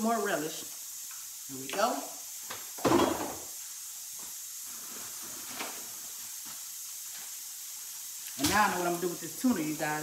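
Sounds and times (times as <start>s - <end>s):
pressure cooker steam hissing: 0.0s - 10.0s.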